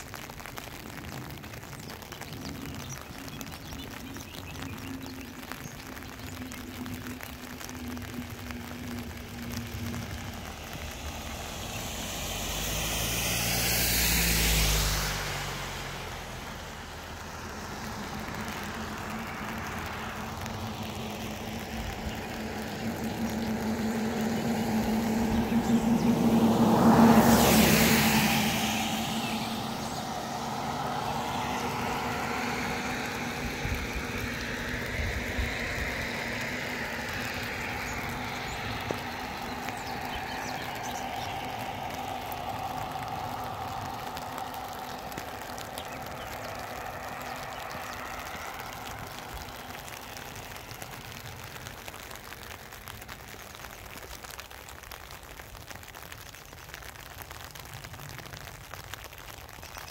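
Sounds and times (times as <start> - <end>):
rain hiss: 0.0 - 59.9
vehicles passing on a road: 0.0 - 59.9.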